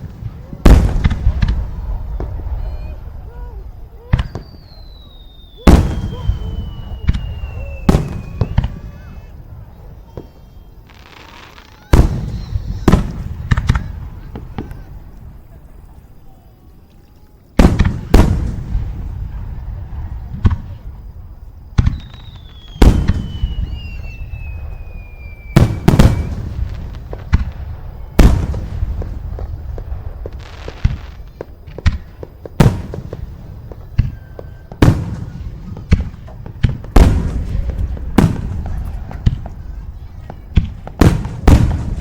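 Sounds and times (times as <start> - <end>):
falling firework whistle: 0.0 - 42.0
fireworks booming bangs: 0.0 - 42.0.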